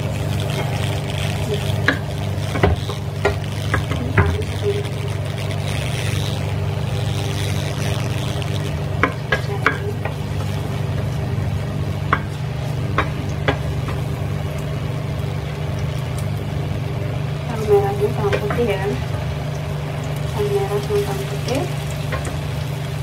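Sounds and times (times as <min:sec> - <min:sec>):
ginger sizzling in hot oil: 0:00.0 - 0:23.0
steady low hum: 0:00.0 - 0:23.0.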